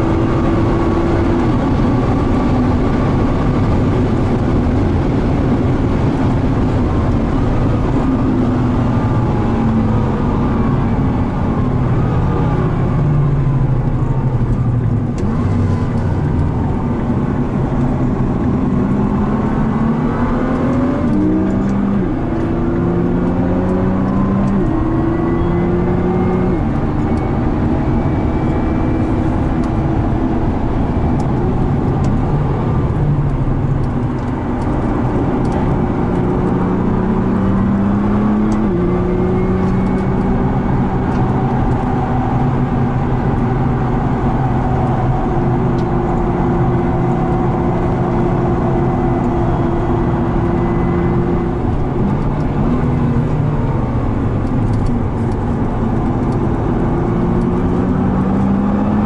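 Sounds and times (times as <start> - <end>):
car engine revving: 0.0 - 59.0
road and tyre noise: 0.0 - 59.0.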